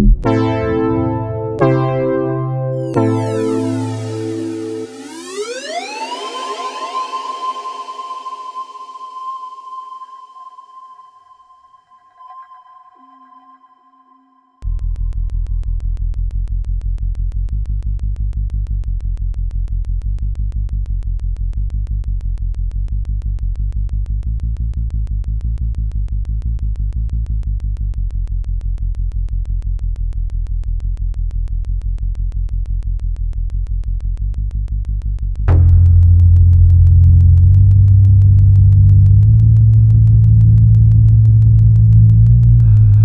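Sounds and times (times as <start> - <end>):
pulsing low synthesizer drone: 0.0 - 12.3, 14.6 - 43.0.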